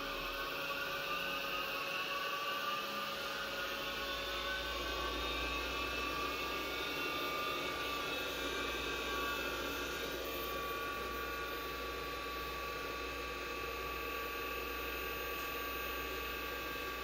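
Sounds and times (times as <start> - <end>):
computer fan and hard drive whine: 0.0 - 17.0.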